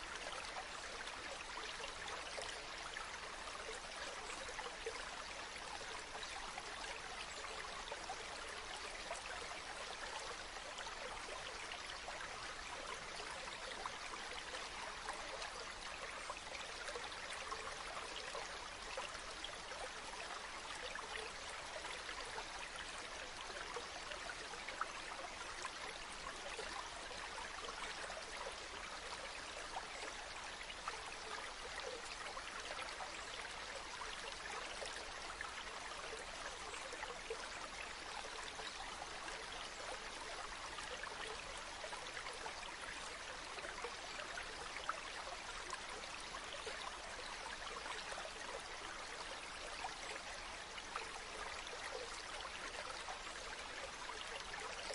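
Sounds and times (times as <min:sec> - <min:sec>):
rushing stream water: 0:00.0 - 0:54.9.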